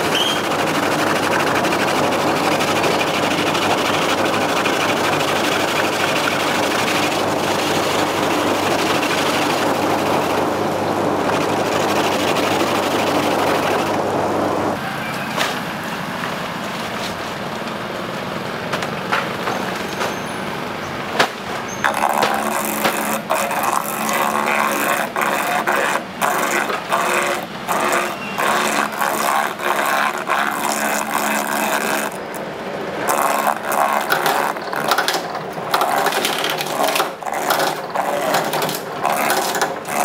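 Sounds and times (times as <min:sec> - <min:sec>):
machine motor humming: 0:00.0 - 0:40.0.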